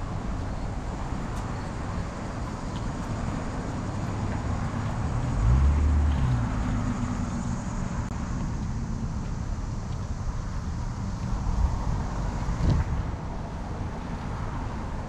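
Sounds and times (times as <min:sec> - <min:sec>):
car engine passing: 0:00.0 - 0:15.0
outdoor street noise: 0:00.0 - 0:15.0.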